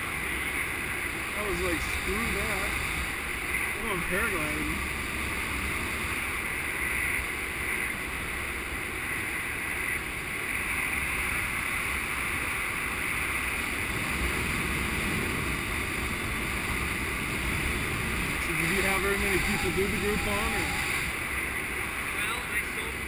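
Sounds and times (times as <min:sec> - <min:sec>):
wind rushing over microphone: 0:00.0 - 0:22.2.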